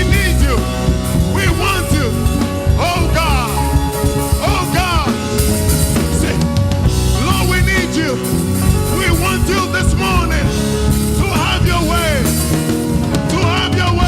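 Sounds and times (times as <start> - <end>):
sliding bending melody: 0.0 - 13.6
bass: 0.0 - 14.0
drums: 0.0 - 14.0.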